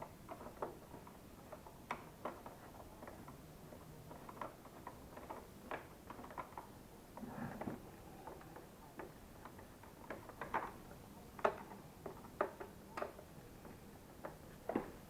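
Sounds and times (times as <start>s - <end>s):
plastic parts clicking and knocking: 0.0s - 15.0s.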